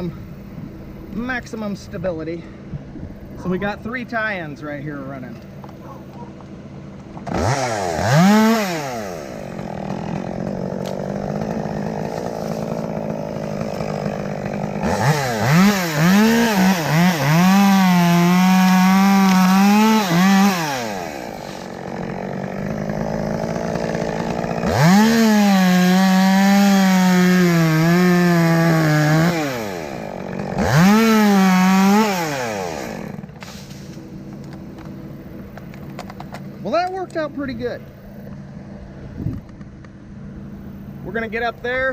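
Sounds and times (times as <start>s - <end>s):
chainsaw cutting wood: 5.1s - 40.6s.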